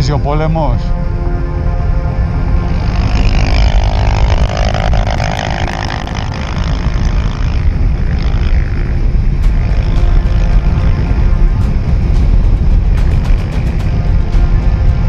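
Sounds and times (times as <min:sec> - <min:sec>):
wind noise on microphone: 0:00.0 - 0:15.0
motorcycle engine at speed: 0:01.9 - 0:15.0.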